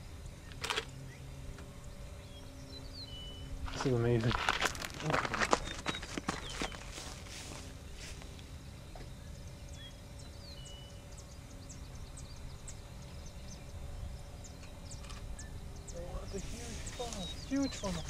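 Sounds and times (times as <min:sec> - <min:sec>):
birds chirping: 0:00.0 - 0:18.0
faint steady hum: 0:00.0 - 0:18.0
low steady rumble: 0:00.0 - 0:18.0.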